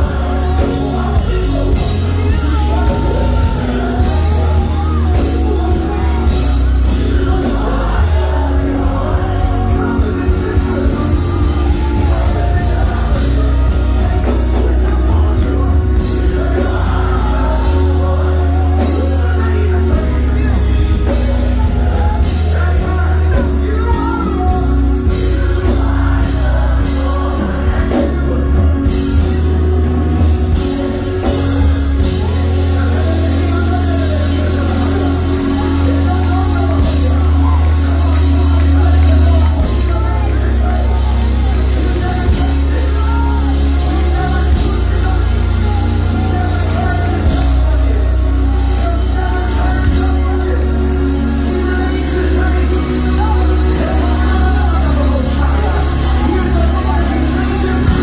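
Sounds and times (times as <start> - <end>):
amplified band with deep bass: 0.0 - 58.0
group of singers: 0.0 - 58.0.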